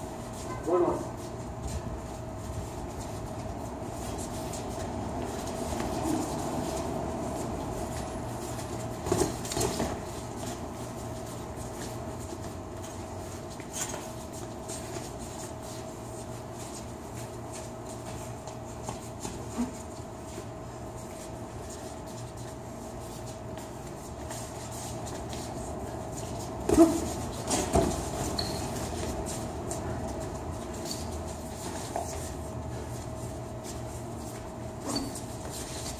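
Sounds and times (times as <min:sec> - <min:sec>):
steady machine hum: 0:00.0 - 0:35.9.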